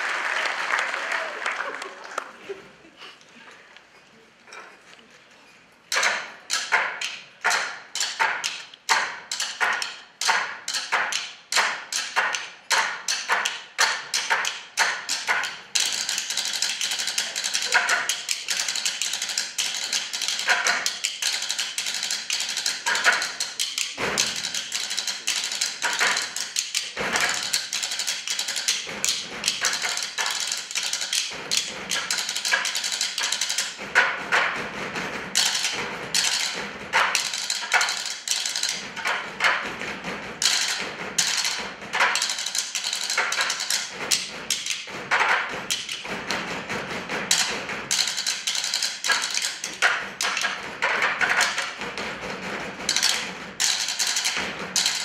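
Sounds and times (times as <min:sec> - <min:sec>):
wooden sticks drumming on desks: 0:05.8 - 0:55.0.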